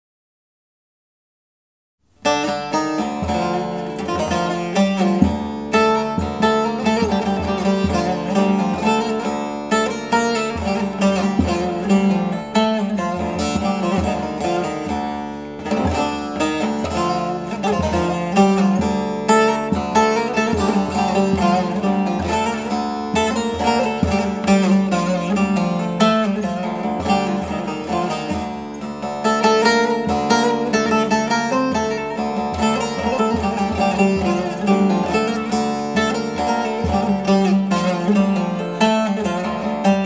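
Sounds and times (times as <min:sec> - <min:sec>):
plucked string instrument music: 0:02.1 - 0:40.0.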